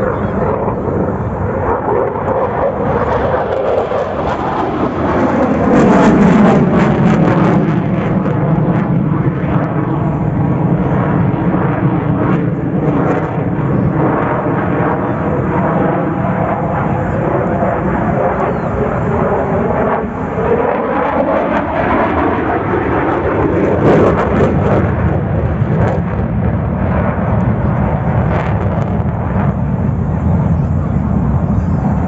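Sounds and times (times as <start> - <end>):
jet aircraft flying overhead: 0.0 - 32.0.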